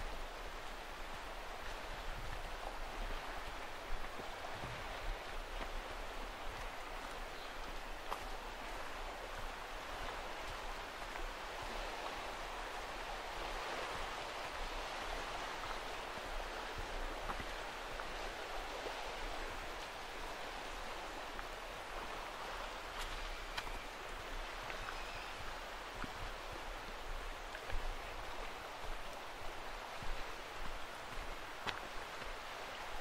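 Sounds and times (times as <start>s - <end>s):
running water: 0.0s - 33.0s.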